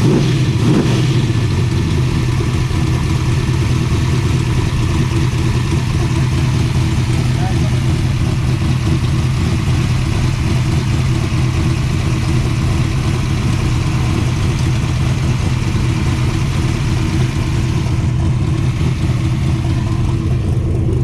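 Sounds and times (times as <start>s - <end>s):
v eight engine idling: 0.0s - 21.0s.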